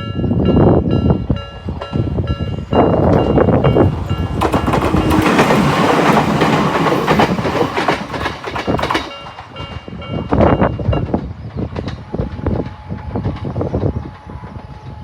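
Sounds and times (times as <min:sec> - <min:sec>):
train wheels clattering over rails: 0:00.3 - 0:14.3.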